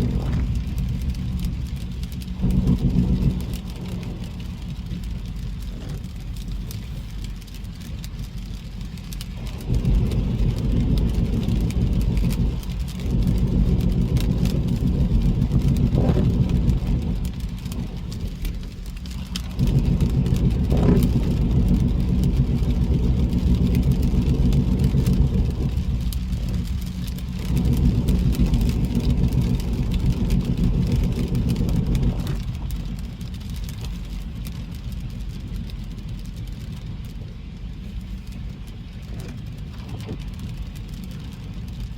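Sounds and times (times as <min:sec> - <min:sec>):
car road and engine rumble: 0:00.0 - 0:41.9
rain ticking on car: 0:00.0 - 0:41.9.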